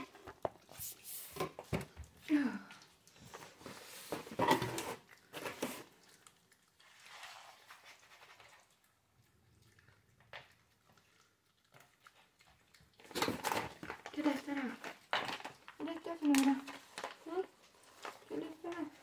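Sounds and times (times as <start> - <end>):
dogs chewing treats: 1.6 - 19.0.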